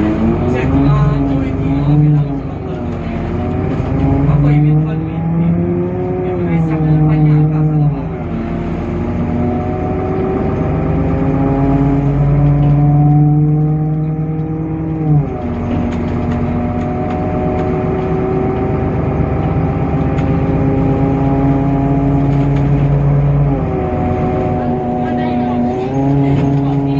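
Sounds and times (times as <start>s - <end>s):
bus diesel engine accelerating: 0.0s - 26.9s.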